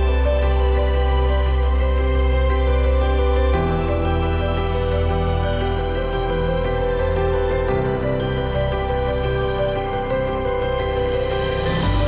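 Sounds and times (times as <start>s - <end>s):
gentle background music: 0.0s - 12.0s.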